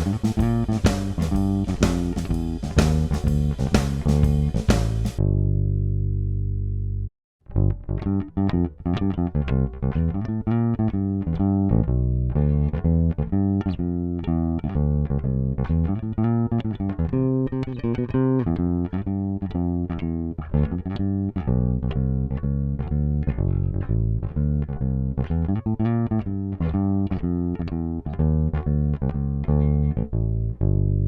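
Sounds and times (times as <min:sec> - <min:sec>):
plucked bass guitar: 0:00.0 - 0:31.0.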